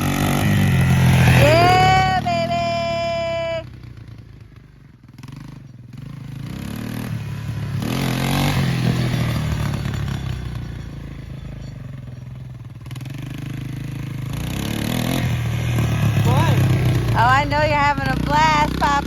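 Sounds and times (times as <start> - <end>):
three-wheeler engine accelerating: 0.0 - 19.0.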